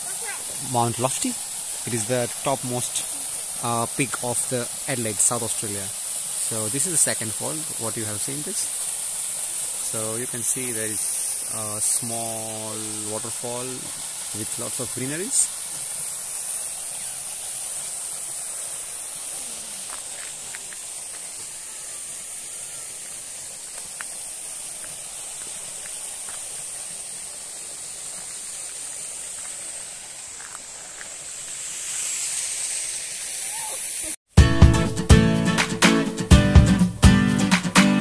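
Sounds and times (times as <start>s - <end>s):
waterfall hissing: 0.0s - 34.2s.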